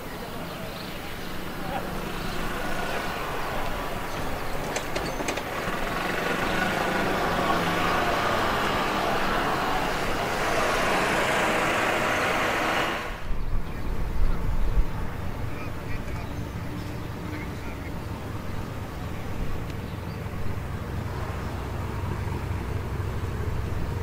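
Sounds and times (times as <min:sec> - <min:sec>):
vehicle engine noise: 0:00.0 - 0:24.0.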